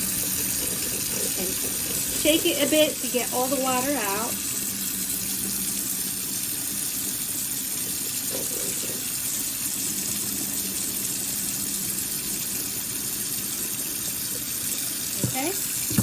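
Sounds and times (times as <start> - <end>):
water running into sink: 0.0 - 16.0.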